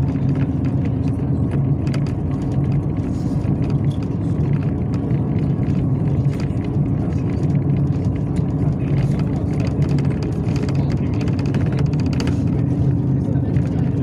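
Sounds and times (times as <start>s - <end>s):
bus engine and road rumble: 0.0s - 14.0s
faint clicks and rattles: 0.0s - 14.0s.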